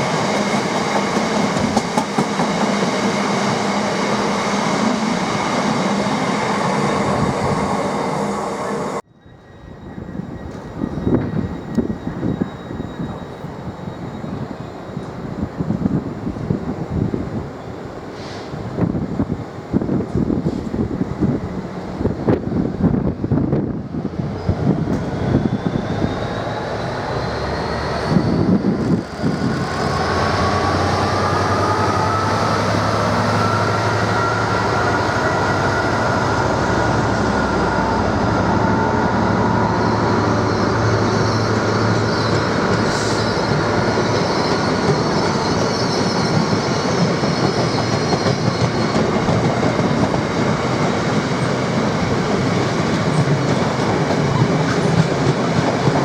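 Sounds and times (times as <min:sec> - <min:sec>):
train drive whine: 0:00.0 - 0:56.0
train rumbling on rails: 0:00.0 - 0:56.0.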